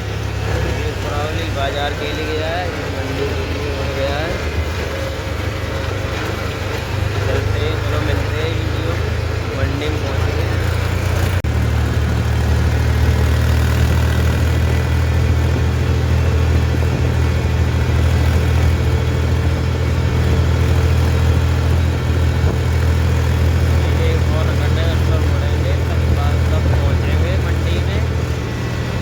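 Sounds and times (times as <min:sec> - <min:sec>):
tractor engine low drone: 0:00.0 - 0:29.0.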